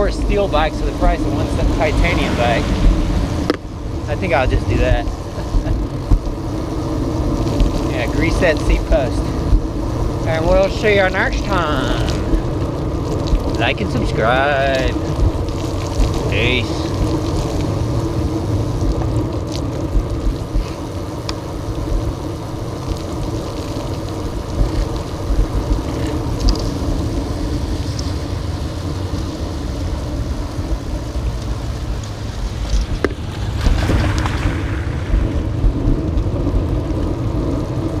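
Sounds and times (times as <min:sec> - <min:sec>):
road and traffic rumble: 0:00.0 - 0:38.0
wind buffeting microphone: 0:00.0 - 0:38.0.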